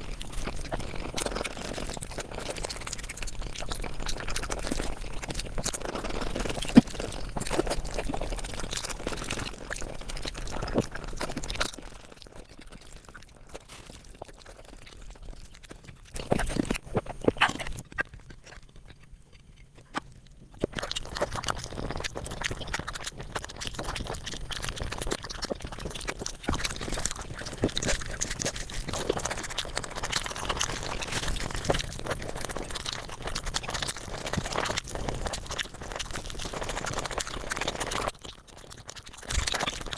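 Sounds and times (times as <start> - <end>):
chewing smacking and crunching: 0.0 - 39.9.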